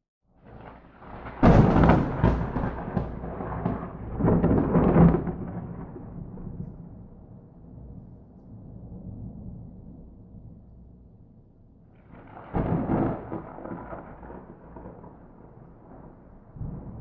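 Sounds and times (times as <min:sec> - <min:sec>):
thunder clap and rumble: 0:00.4 - 0:11.0, 0:12.0 - 0:17.0.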